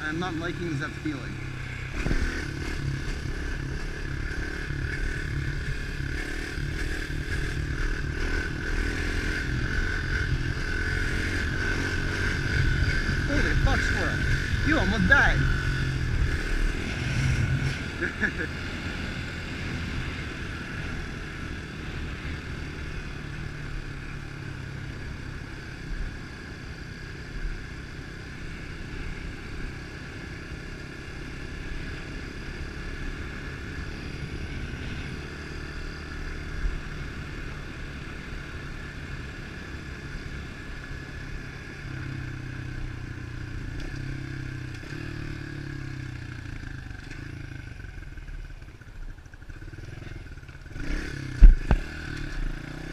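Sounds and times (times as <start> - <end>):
small motorbike engine running: 0.0 - 52.9.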